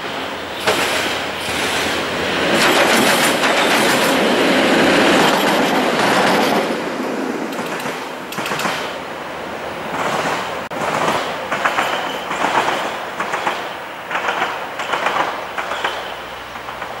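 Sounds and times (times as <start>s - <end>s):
train wheels rolling on rails: 0.0s - 17.0s
wheels clicking over rail joints: 0.6s - 9.0s, 9.9s - 17.0s.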